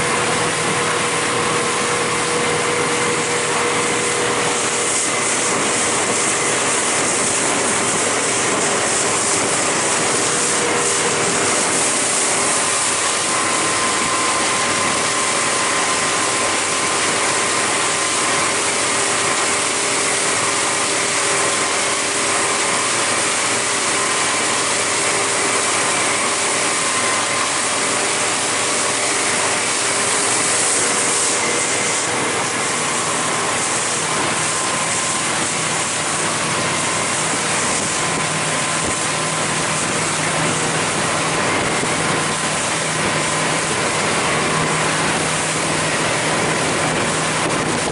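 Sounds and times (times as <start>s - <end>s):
boat engine drone: 0.0s - 47.9s
rush of wind and water: 0.0s - 47.9s.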